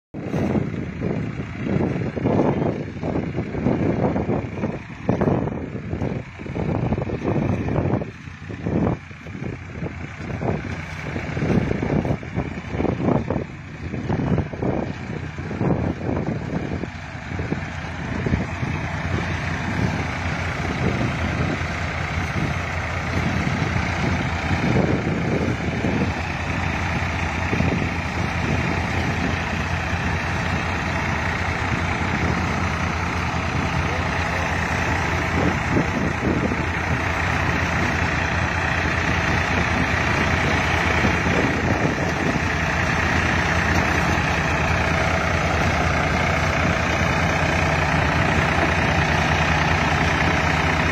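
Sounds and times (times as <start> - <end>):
tractor engine running: 0.1 - 50.9.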